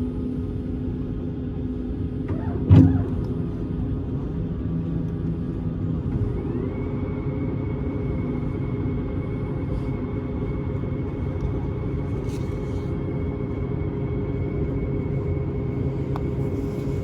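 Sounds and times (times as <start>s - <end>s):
aircraft cabin rumble: 0.0s - 17.0s
engine whine: 0.0s - 17.0s.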